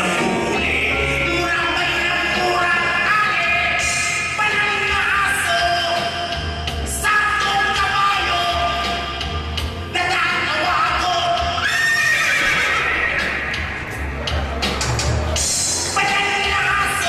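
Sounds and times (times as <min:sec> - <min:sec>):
band music with pulsing bass: 0:00.0 - 0:17.0.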